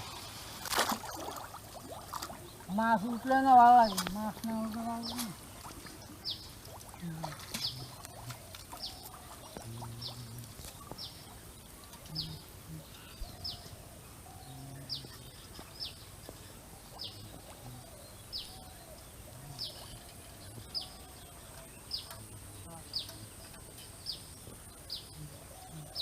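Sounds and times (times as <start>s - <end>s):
faint outdoor background noise: 0.0s - 26.0s.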